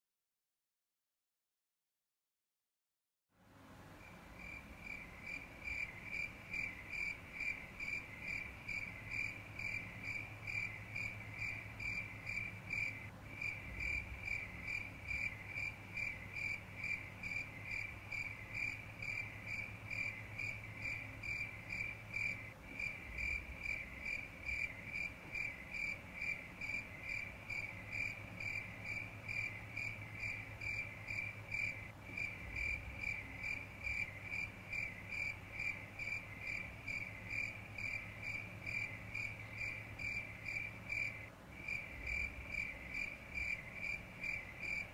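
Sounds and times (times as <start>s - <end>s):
low steady hum: 3.4s - 44.9s
insect chirping: 4.0s - 44.9s.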